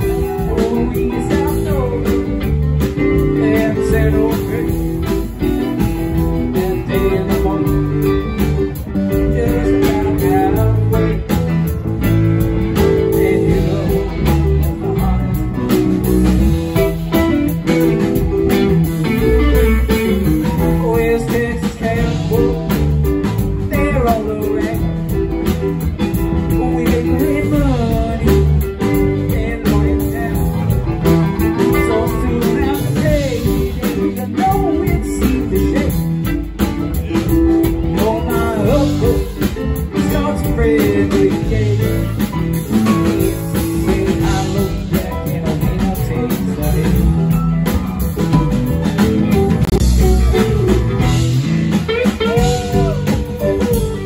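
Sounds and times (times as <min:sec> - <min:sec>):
drum kit: 0:00.0 - 0:54.0
electric guitar lead: 0:00.0 - 0:54.0
electric keyboard: 0:00.0 - 0:54.0.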